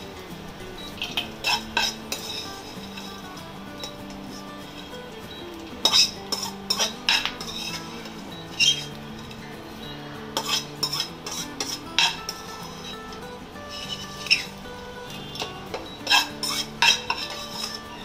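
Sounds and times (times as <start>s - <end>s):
metal spoon scraping a pan: 0.8s - 18.0s.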